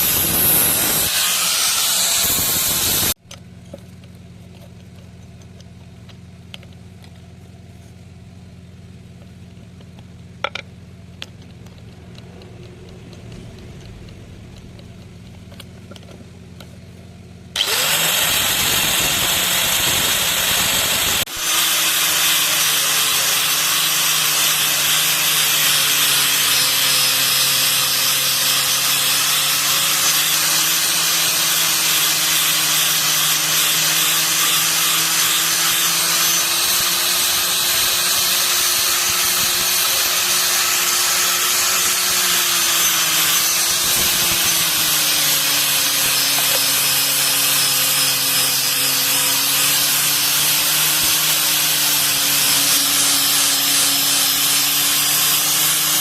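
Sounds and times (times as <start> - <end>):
electric power tool running: 0.0 - 3.2, 11.2 - 16.2, 17.5 - 56.0.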